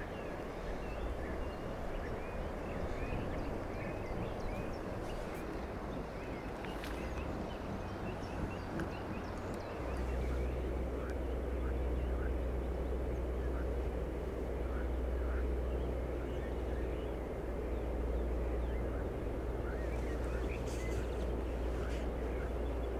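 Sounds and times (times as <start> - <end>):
bird chirping: 0.0 - 13.9, 14.6 - 22.9
steady low rumble: 0.0 - 22.9.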